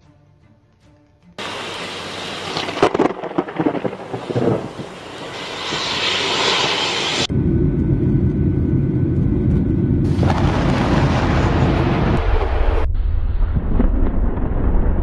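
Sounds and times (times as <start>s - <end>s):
low thunder rumble: 1.4s - 15.0s
thunder cracks: 1.4s - 15.0s.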